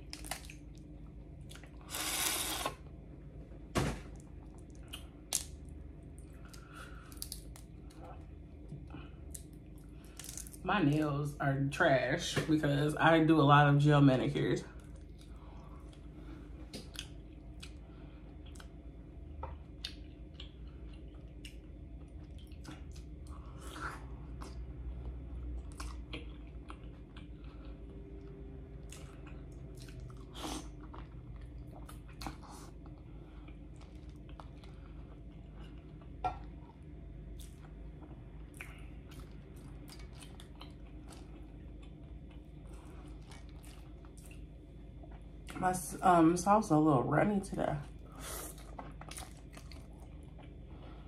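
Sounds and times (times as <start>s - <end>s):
chewing and mouth smacks: 0.0s - 2.7s, 4.2s - 10.6s, 14.8s - 18.8s, 19.4s - 45.6s, 48.4s - 50.7s
low steady hum: 0.0s - 51.0s.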